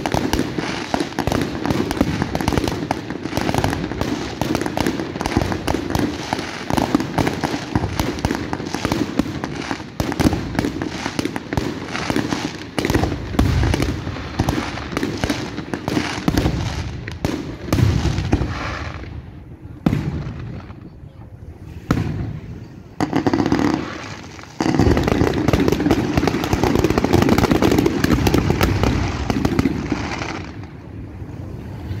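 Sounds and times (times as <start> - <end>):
fireworks bursts and crackling: 0.0 - 31.9.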